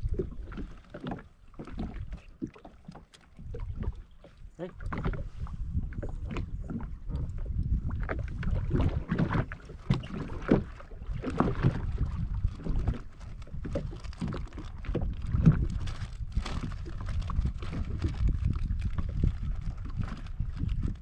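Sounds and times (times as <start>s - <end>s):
wind buffeting microphone: 0.0s - 0.8s, 3.3s - 21.0s
water splashes: 0.0s - 21.0s.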